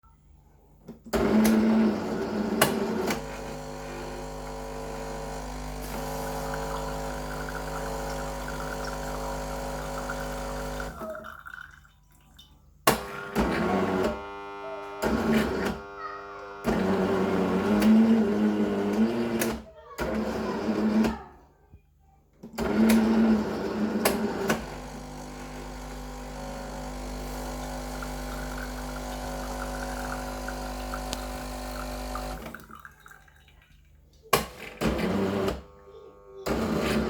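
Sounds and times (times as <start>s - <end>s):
coffee machine mechanical hum: 0.9s - 11.2s, 12.9s - 21.2s, 22.4s - 32.8s, 34.3s - 37.0s.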